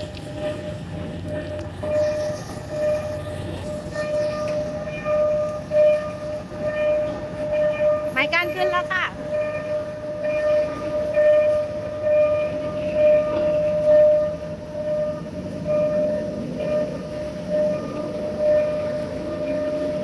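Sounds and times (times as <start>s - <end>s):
electronic warning tone pulsing: 0.0s - 20.0s
train rumbling slowly past: 0.0s - 20.0s.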